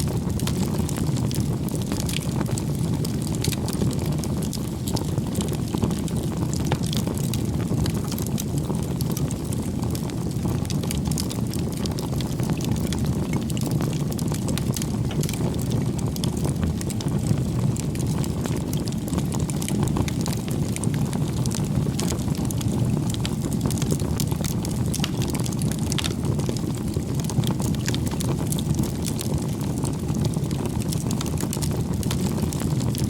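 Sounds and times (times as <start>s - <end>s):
bonfire crackling: 0.0s - 33.0s.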